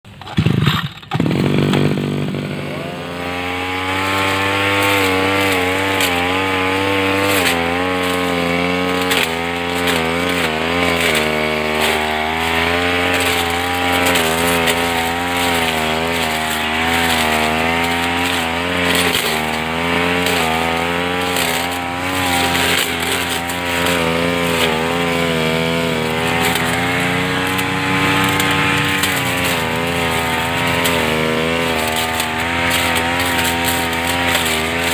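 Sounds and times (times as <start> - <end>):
lawn mower engine running: 0.0 - 34.9.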